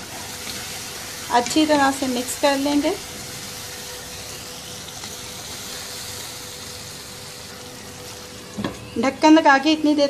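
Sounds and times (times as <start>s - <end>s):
gravy sizzling in a wok: 0.0s - 10.0s.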